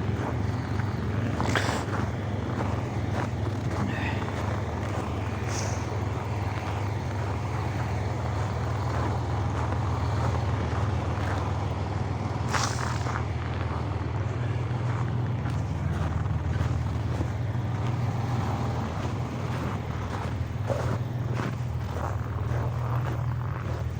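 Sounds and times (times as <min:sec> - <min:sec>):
heavy vehicle engine droning: 0:00.0 - 0:23.9.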